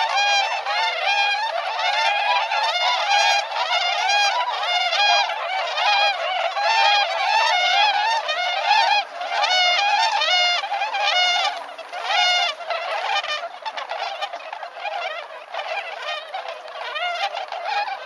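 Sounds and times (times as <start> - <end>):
flock of swans calling: 0.0 - 18.0.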